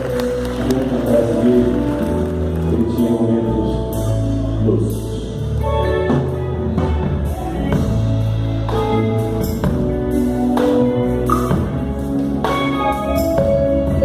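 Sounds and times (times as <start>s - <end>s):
bass line: 0.0s - 14.0s
drums: 0.0s - 14.0s
live band playing: 0.0s - 14.0s.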